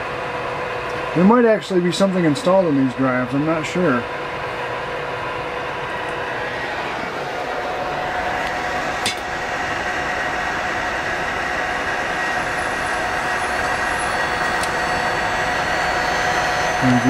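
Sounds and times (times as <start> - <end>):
constant whining tones: 0.0 - 17.0
server cooling fans whirring: 0.0 - 17.0.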